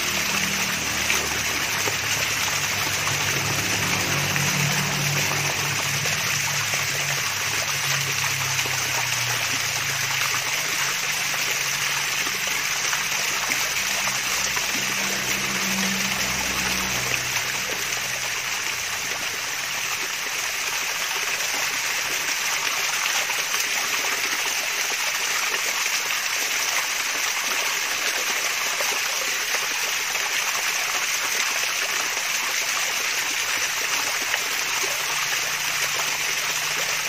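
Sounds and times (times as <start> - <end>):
water splashing down waterfall: 0.0 - 37.0.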